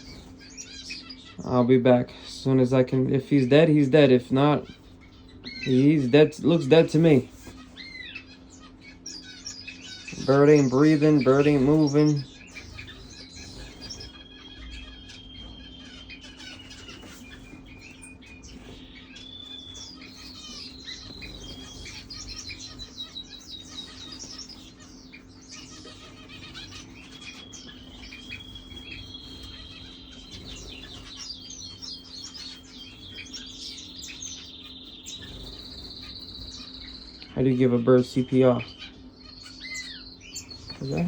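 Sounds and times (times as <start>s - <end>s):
small birds chirping: 0.0s - 41.0s
steady low hum: 0.0s - 41.0s.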